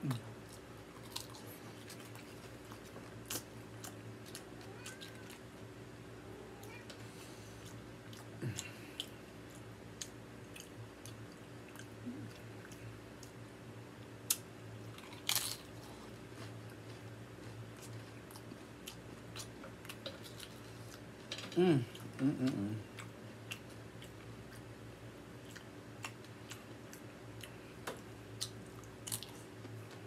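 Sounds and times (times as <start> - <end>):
chewing crunchy chips: 0.0 - 5.5, 7.5 - 13.4, 14.2 - 21.2, 21.8 - 30.0.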